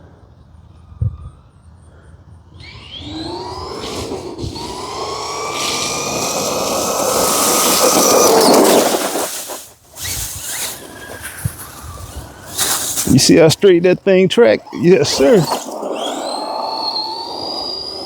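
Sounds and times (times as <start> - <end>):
electric motor whining: 2.5 - 18.0
tyre noise: 2.6 - 18.0.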